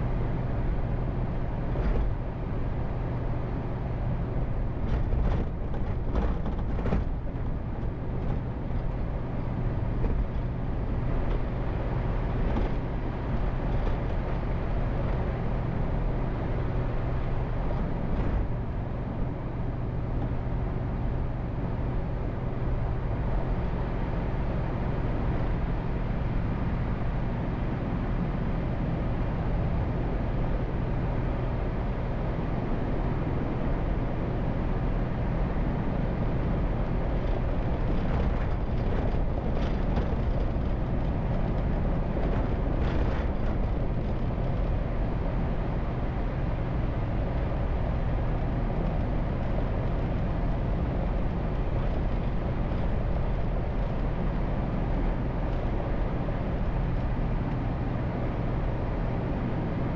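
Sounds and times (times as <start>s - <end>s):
tyre and road noise: 0.1s - 32.4s, 34.4s - 59.9s.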